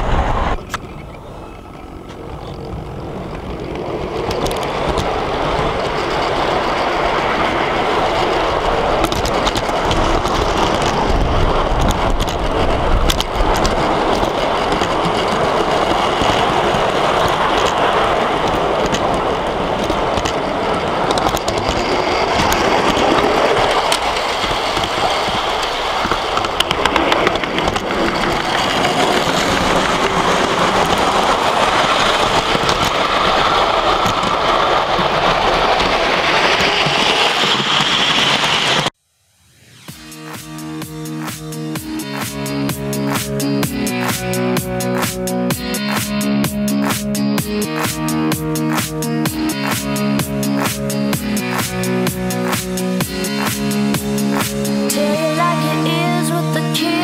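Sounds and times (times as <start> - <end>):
wheels clicking over track: 0.0 - 39.0, 39.9 - 57.0
model train rumbling past: 0.0 - 57.0.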